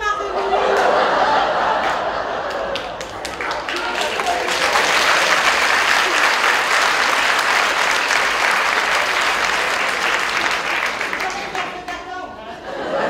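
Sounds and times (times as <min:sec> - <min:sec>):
audience applauding: 0:00.6 - 0:12.2.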